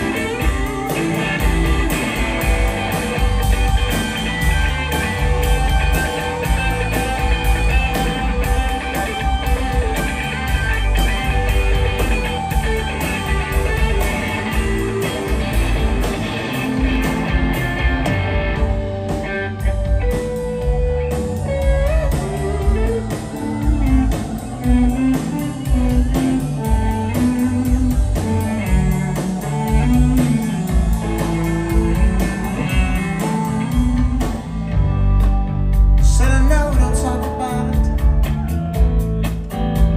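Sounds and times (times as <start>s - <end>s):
electric guitar solo: 0.0s - 35.8s
live rock band playing: 0.0s - 39.9s.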